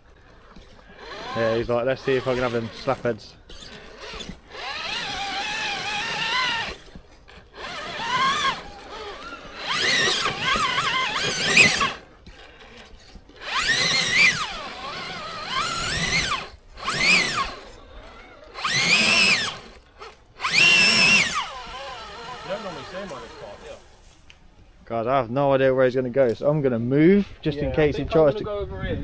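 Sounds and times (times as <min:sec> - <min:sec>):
electric motor whining in bursts: 0:00.0 - 0:23.9.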